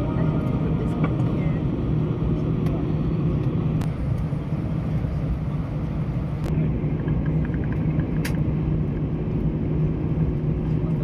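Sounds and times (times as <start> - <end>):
aircraft engines rumbling in cabin: 0.0 - 11.0.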